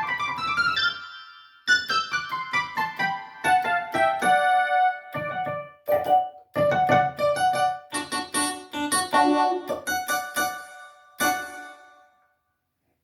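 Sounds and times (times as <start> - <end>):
keyboard playing piano runs and chords: 0.0 - 12.0.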